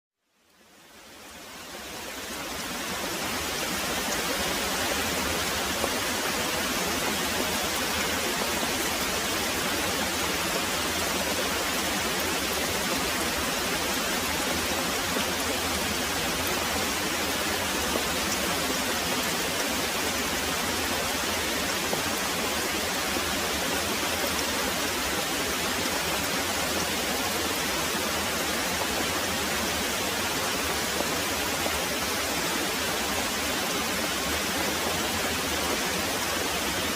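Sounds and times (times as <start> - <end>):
heavy rain pouring: 0.4 - 36.9.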